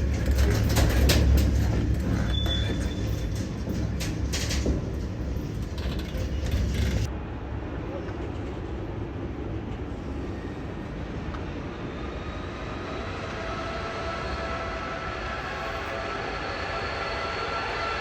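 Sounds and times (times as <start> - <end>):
train rumbling on tracks: 0.0 - 18.0
train whine: 0.0 - 18.0.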